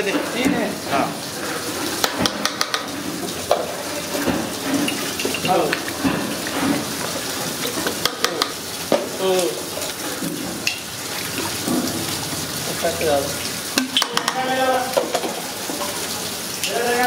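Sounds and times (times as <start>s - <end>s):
liquid pouring into a pot: 0.2s - 17.0s.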